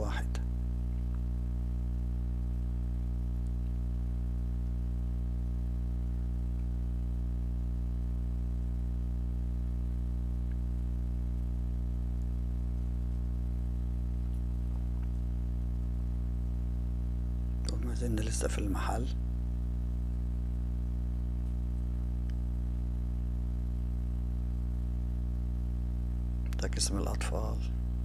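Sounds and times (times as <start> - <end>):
low-pitched hum: 0.0 - 28.0.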